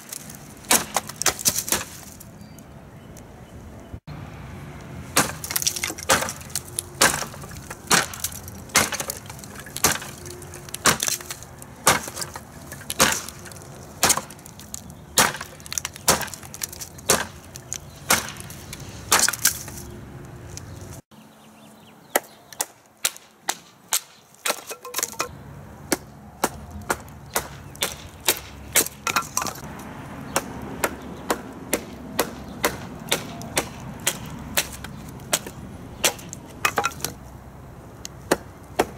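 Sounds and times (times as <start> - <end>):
blade chopping into dry wood: 0.0 - 2.3, 5.1 - 19.9, 22.1 - 25.3, 25.9 - 29.7, 30.3 - 37.2, 38.2 - 38.9.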